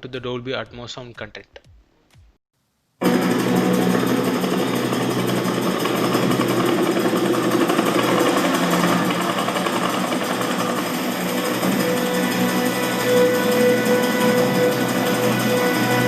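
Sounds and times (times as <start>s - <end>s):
loud engine-like mechanical din: 3.0s - 16.0s.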